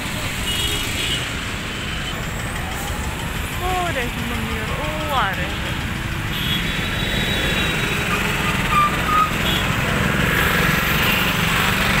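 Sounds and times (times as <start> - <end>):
auto-rickshaw engine idling: 0.0 - 12.0
street traffic: 0.0 - 12.0.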